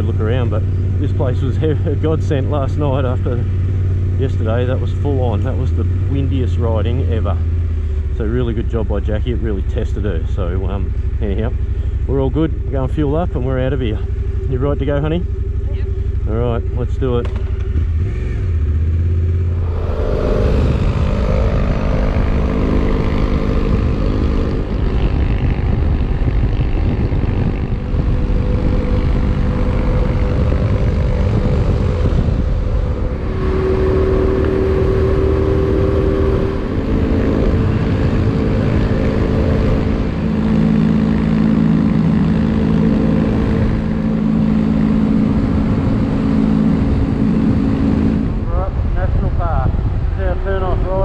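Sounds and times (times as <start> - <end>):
motorcycle engine running: 0.0 - 51.0
wind and road noise: 0.0 - 51.0.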